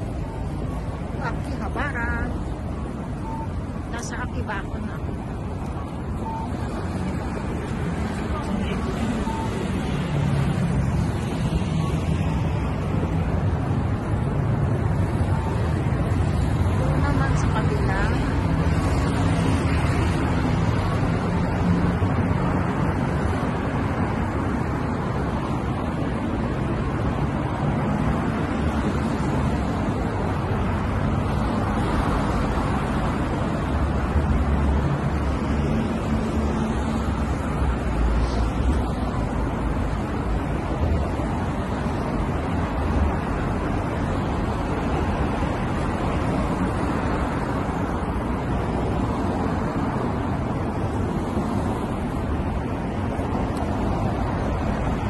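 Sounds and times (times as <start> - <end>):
cars passing: 0.0 - 55.0
road traffic rumble: 0.0 - 55.0.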